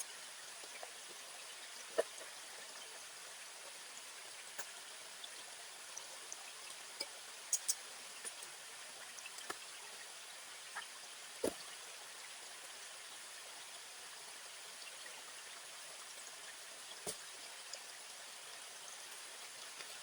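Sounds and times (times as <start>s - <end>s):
soft steady hiss: 0.0s - 20.0s.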